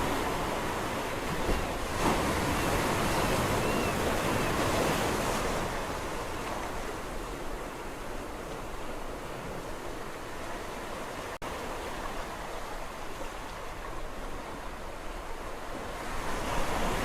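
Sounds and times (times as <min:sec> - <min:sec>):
sea waves breaking on shore: 0:00.0 - 0:17.0.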